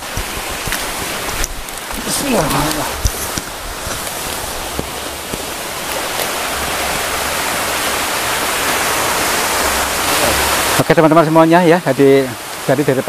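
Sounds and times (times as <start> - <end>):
waterfall splashing over rocks: 0.0 - 13.0.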